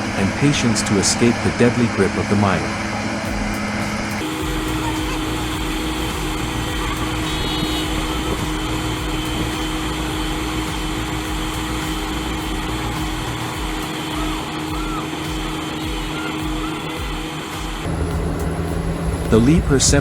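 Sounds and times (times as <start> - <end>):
heavy machinery diesel engine running: 0.0 - 20.0.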